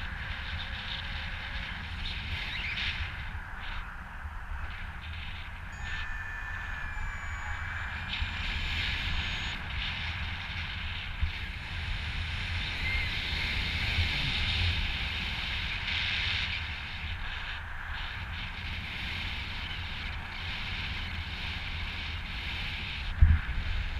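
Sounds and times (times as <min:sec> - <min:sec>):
wind rushing over microphone: 0:00.0 - 0:23.9.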